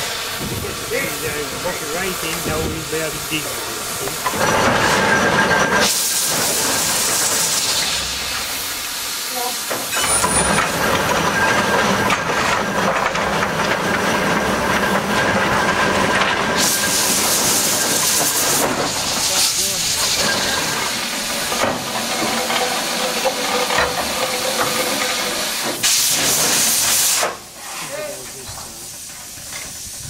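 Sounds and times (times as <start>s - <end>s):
steam engine hissing: 0.0s - 30.0s.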